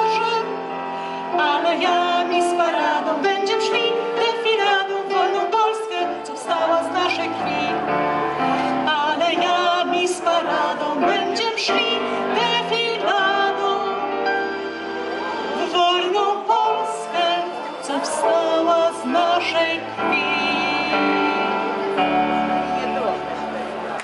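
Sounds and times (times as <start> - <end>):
woman singing with vibrato: 0.0 - 14.4, 15.3 - 23.3
electronic keyboard chords: 0.0 - 24.0.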